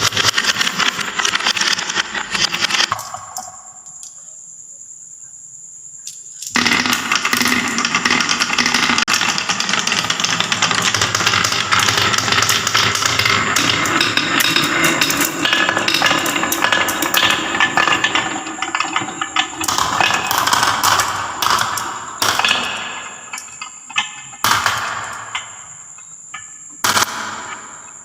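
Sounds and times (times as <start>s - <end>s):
marbles rattling down a track: 0.0s - 3.5s, 6.5s - 25.8s.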